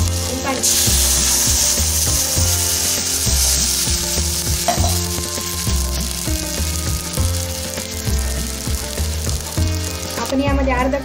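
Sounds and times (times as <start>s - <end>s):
water sizzling in hot oil: 0.0s - 11.0s.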